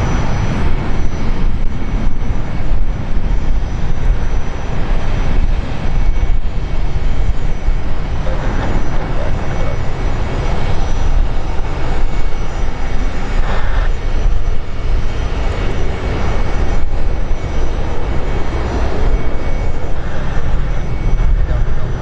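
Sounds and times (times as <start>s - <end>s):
airliner engine noise: 0.0s - 22.0s.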